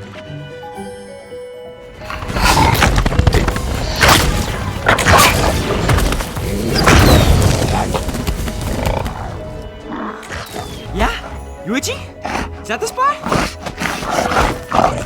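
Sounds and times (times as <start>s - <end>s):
film soundtrack music: 0.0s - 15.0s.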